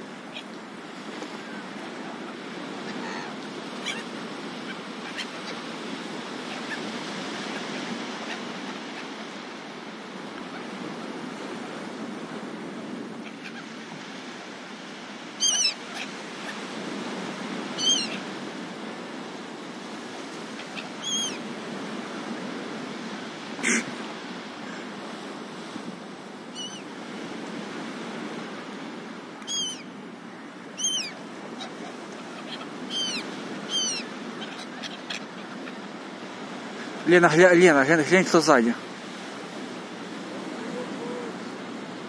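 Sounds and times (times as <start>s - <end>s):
surf: 0.0s - 42.0s
wind: 0.0s - 42.0s
gulls calling: 0.2s - 11.0s, 13.1s - 19.0s, 20.4s - 22.7s, 23.4s - 25.0s, 26.4s - 27.3s, 28.7s - 38.6s, 39.5s - 42.0s.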